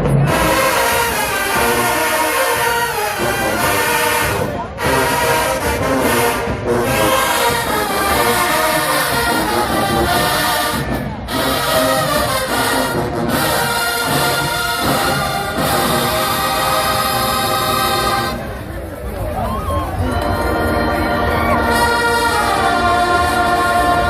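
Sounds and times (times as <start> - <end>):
marching band playing brass music: 0.0 - 18.9, 19.9 - 24.0.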